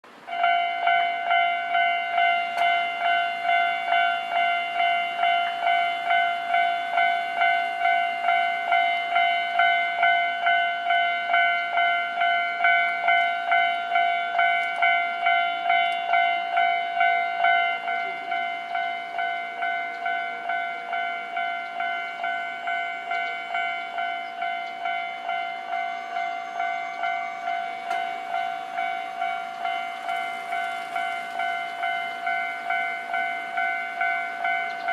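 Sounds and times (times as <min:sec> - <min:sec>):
crossing warning bell ringing: 0:00.0 - 0:34.9.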